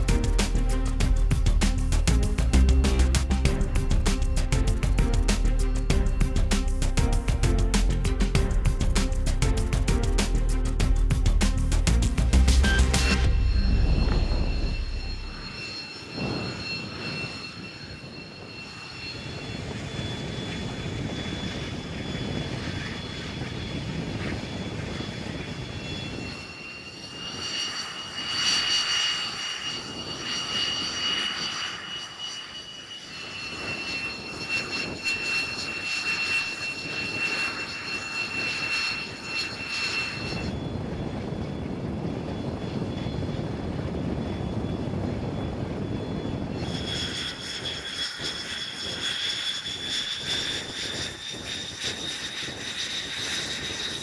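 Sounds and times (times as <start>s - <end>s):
jet engine low rumble: 0.0s - 54.0s
jet engine turbine whine: 0.0s - 54.0s.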